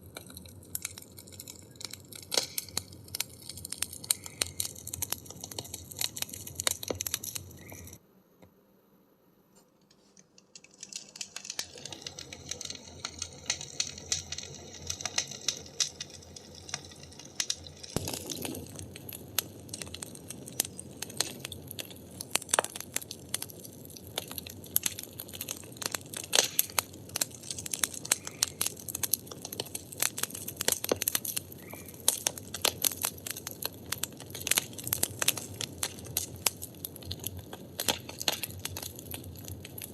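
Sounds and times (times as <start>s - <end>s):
firewood crackling and popping: 0.0s - 8.0s, 10.2s - 39.9s.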